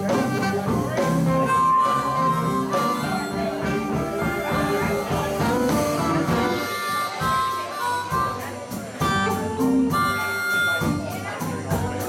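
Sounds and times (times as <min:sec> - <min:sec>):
amplified harmonica: 0:00.0 - 0:12.0
live blues band: 0:00.0 - 0:12.0.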